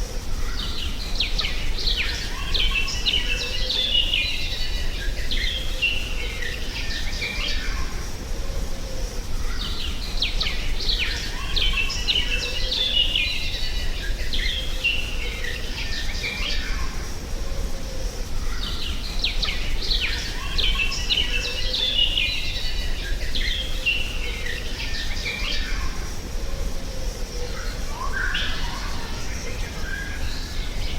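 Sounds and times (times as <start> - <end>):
birds chirping and twittering: 0.0 - 30.9.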